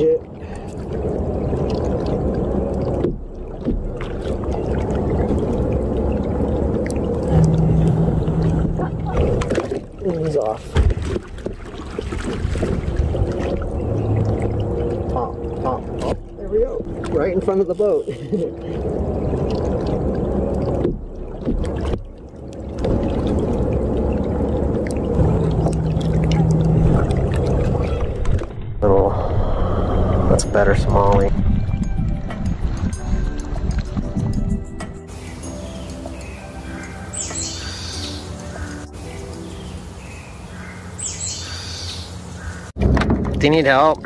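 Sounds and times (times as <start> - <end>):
water noise around kayak: 0.0 - 44.0
wind rumbling: 0.0 - 44.0.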